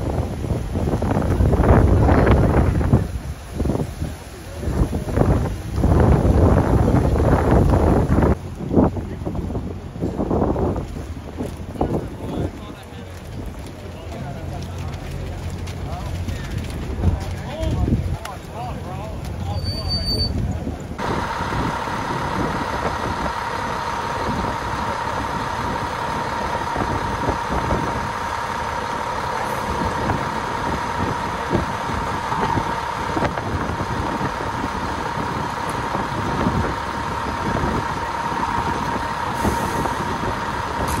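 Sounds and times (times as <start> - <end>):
diesel engine idling: 0.0 - 19.6, 20.3 - 41.0
constant whine: 0.0 - 41.0.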